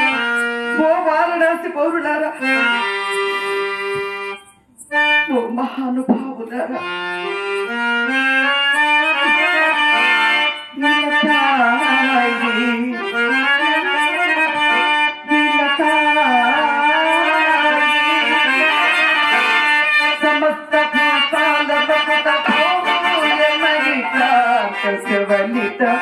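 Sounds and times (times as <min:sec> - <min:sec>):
harmonium playing slow melody: 0:00.0 - 0:26.0.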